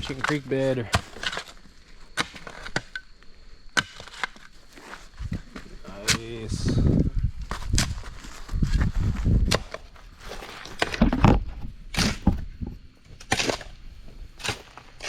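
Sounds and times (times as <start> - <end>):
digging tool striking gravelly soil: 0.0 - 15.0.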